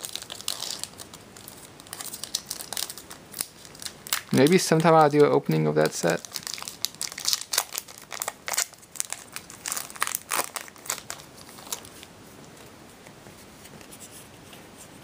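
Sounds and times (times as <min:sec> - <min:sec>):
foil wrapper crinkling: 0:00.0 - 0:12.1.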